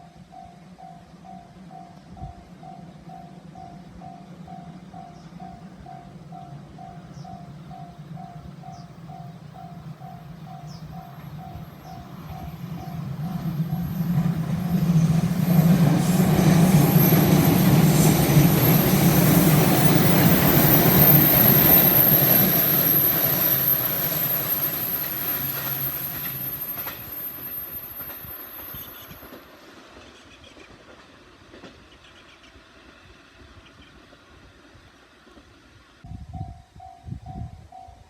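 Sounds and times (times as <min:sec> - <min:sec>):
electric train passing: 0:00.0 - 0:38.0
high steady train whine: 0:00.0 - 0:38.0.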